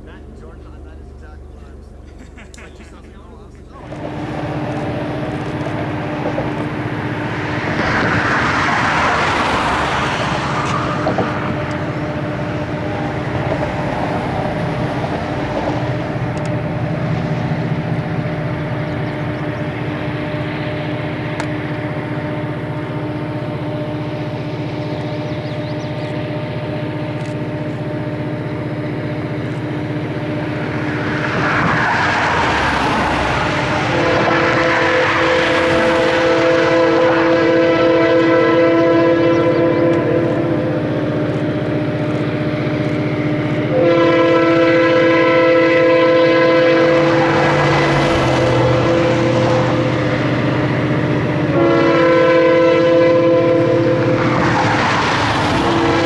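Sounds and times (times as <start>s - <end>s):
diesel locomotive engine hum: 0.0s - 56.0s.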